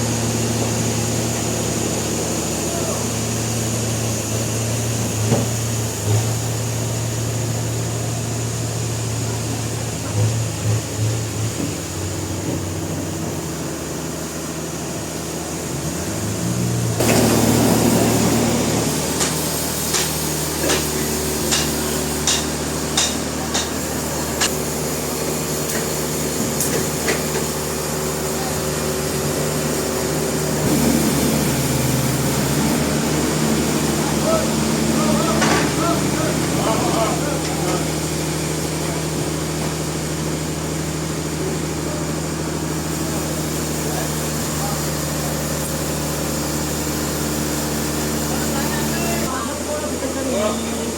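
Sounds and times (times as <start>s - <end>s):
sawmill machinery humming: 0.0s - 50.9s.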